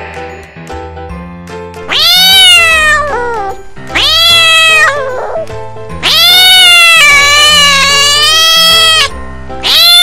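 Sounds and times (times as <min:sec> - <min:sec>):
light background music: 0:00.0 - 0:10.0
cat meowing: 0:01.9 - 0:10.0.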